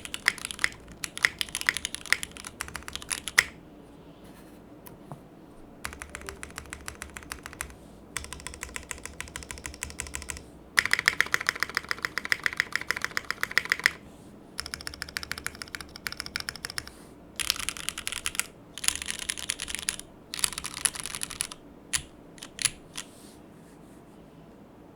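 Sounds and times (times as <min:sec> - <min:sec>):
mechanical keyboard typing: 0:00.0 - 0:03.6, 0:05.8 - 0:14.0, 0:14.6 - 0:23.1.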